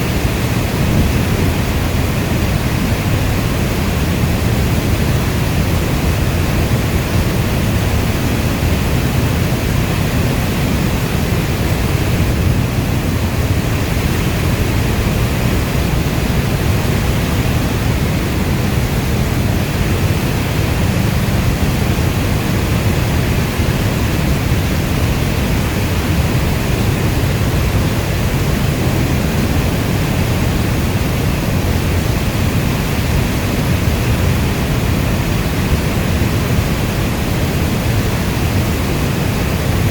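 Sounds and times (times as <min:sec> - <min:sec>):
heavy steady rainfall: 0:00.0 - 0:39.9.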